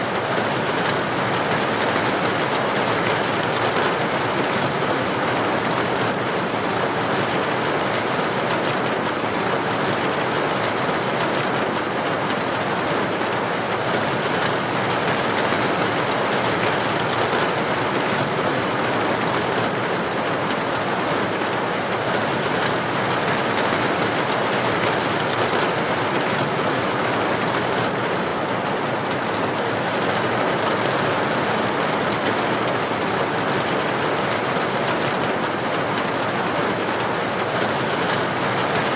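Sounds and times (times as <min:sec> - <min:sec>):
heavy rain on street: 0:00.0 - 0:38.9.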